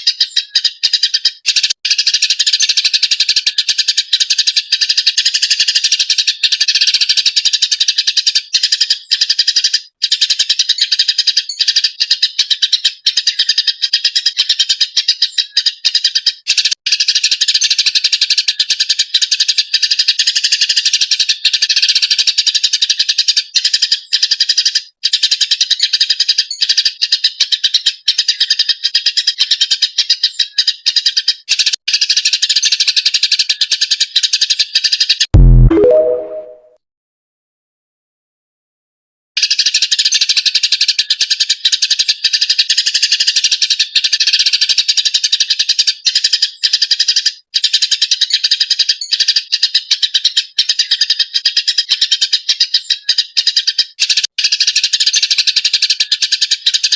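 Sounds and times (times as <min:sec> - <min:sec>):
sparrow chirping rapidly: 0:00.0 - 0:35.2, 0:39.4 - 0:56.9.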